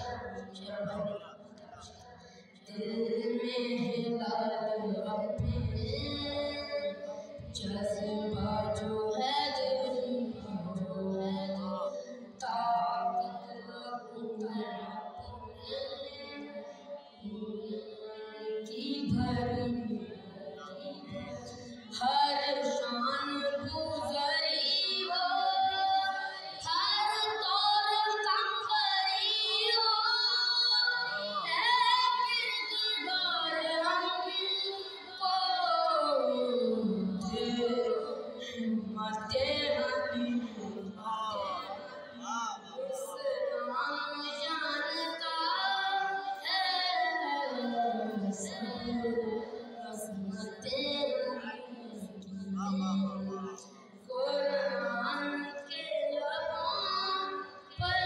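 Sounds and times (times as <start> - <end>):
boy chanting devotional song: 0.0 - 58.0.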